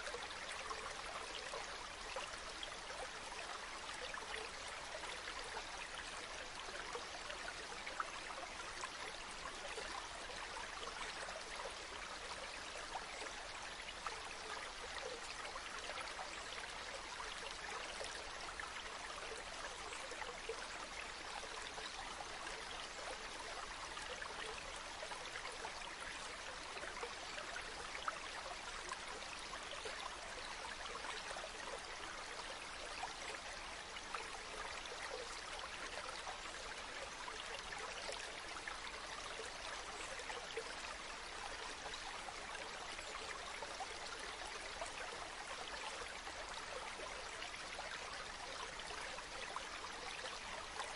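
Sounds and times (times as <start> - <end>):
stream flowing: 0.0 - 50.9.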